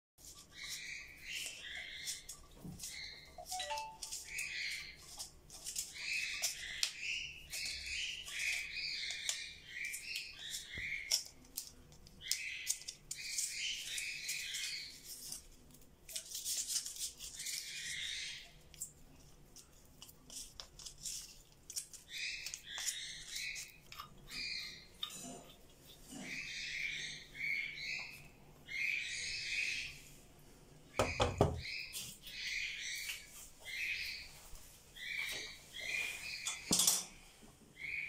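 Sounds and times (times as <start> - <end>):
small birds chirping: 0.2 - 30.2, 30.8 - 38.0.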